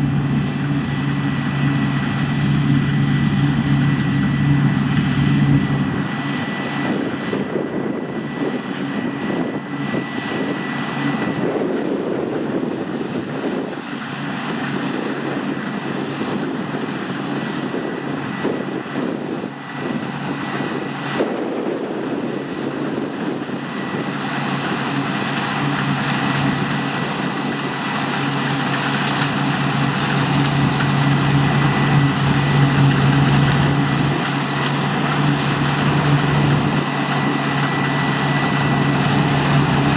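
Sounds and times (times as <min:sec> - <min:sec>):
diesel engine drone: 0:00.0 - 0:39.9
high machine whine: 0:00.0 - 0:39.9.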